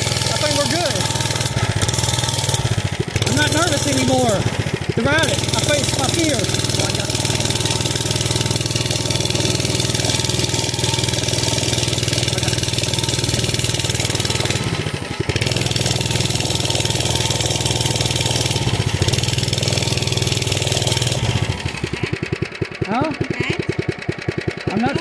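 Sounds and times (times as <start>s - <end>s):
small bike engine running: 0.0s - 25.0s.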